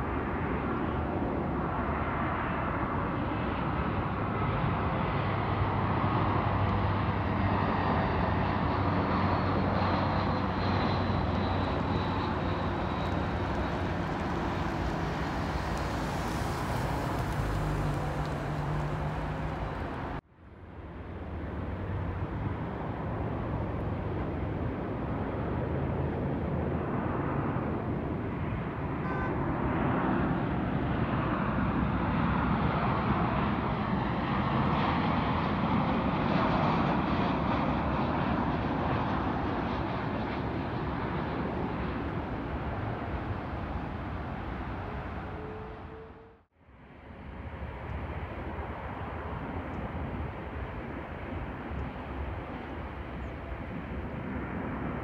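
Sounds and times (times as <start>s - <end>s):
jet engines roaring with whine: 0.0s - 55.0s.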